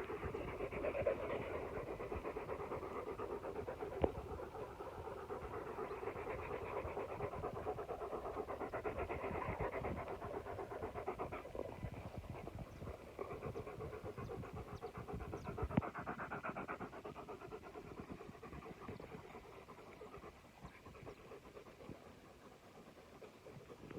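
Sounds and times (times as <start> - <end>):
dog panting: 0.0 - 23.9.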